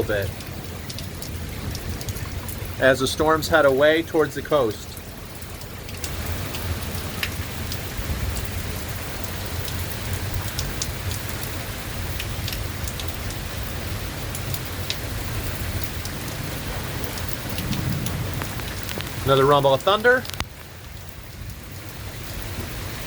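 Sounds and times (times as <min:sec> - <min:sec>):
raindrops ticking sharply: 0:00.0 - 0:23.0
steady rain hiss: 0:00.0 - 0:23.0.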